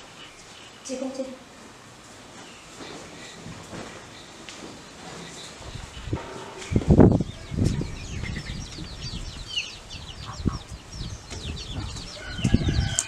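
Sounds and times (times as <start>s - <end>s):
chicks peeping: 2.3s - 13.0s.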